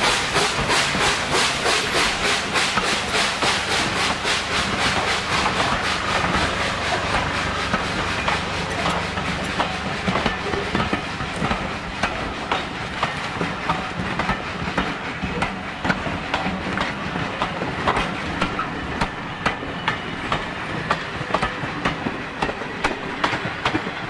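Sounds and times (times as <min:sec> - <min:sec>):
rumble of rolling stock: 0:00.0 - 0:24.0
train wheels clicking over rail joints: 0:00.0 - 0:24.0.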